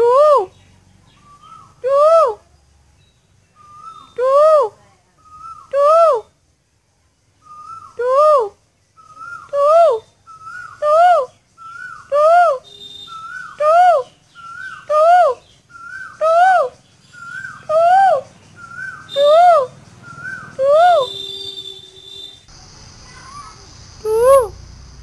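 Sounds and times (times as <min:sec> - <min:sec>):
cuckoo calling: 0:00.0 - 0:02.4, 0:03.5 - 0:06.3, 0:07.4 - 0:24.8.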